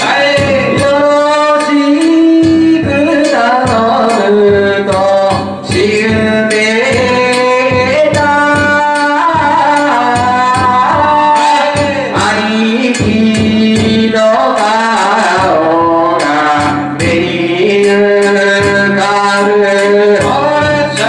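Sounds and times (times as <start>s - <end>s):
steady sharp percussion strikes: 0.0s - 21.0s.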